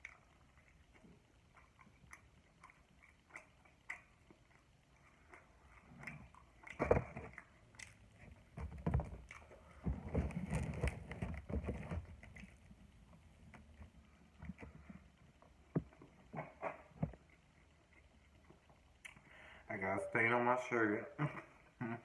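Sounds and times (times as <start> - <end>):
eating and handling noises: 0.0 - 22.0.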